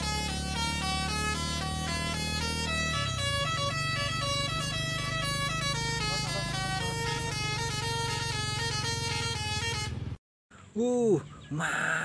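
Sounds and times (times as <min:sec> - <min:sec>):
multi-tone air horn melody: 0:00.0 - 0:10.2
low engine rumble: 0:00.0 - 0:11.5.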